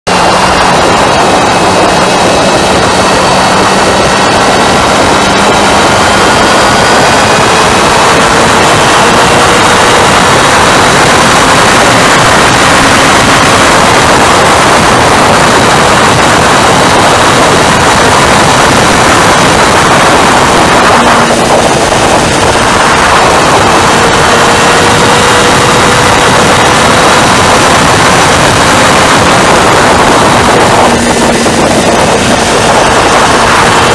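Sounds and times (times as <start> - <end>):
motorcycle engine: 0.0 - 33.9
wind rushing over microphone: 0.1 - 33.9.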